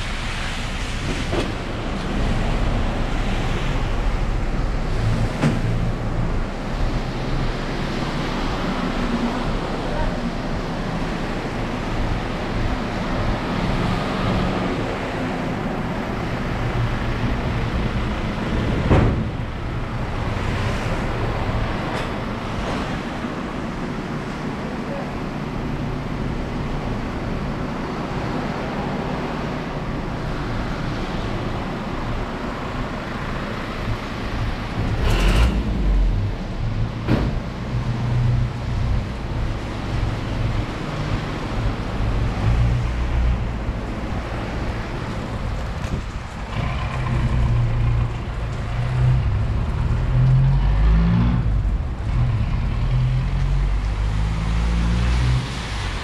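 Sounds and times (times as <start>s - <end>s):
traffic on a wet road: 0.0s - 56.0s.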